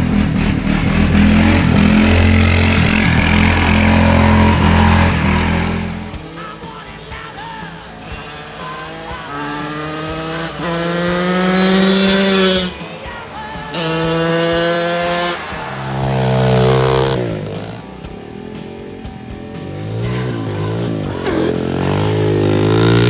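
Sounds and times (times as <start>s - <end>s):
small engines revving: 0.0s - 23.0s.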